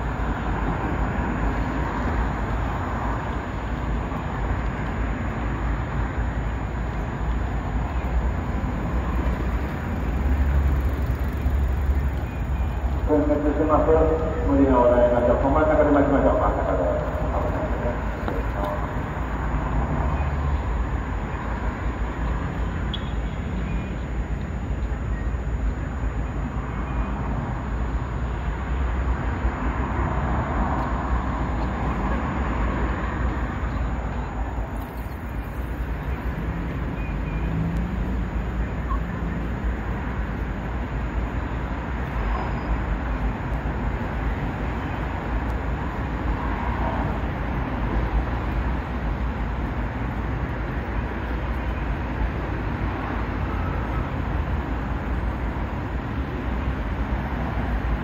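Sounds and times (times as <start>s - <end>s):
city traffic rumble: 0.0s - 58.0s.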